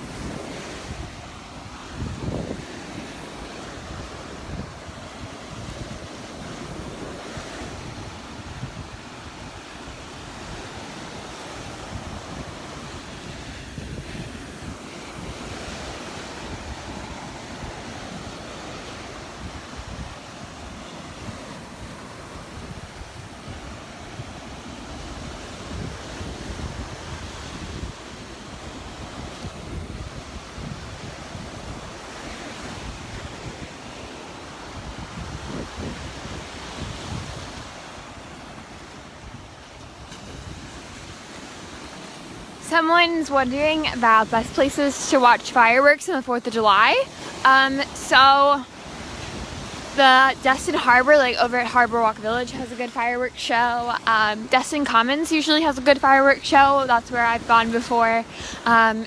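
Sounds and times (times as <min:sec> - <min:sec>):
surf washing onto beach: 0:00.0 - 0:59.0
wind buffeting microphone: 0:00.0 - 0:59.0.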